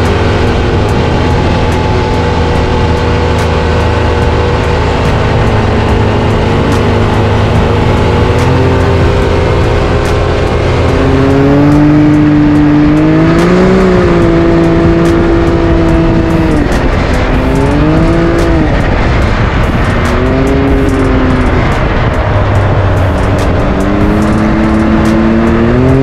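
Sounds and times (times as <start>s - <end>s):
quad bike engine running: 0.0s - 26.0s
steady rushing noise: 0.0s - 26.0s.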